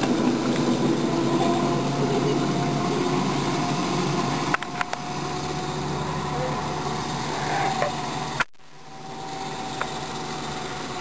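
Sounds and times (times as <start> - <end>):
ride-on train humming: 0.0 - 11.0.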